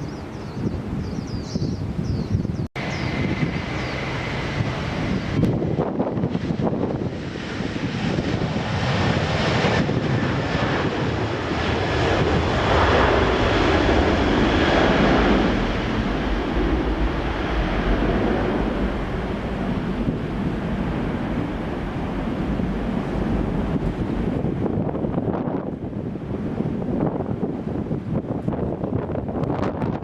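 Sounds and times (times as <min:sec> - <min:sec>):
jet engine rush: 0:00.0 - 0:30.0.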